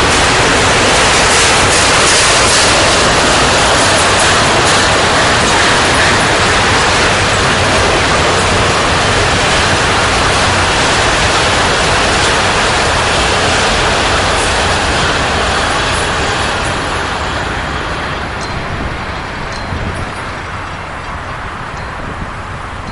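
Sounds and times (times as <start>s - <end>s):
freight cars rolling on rails: 0.0s - 22.9s.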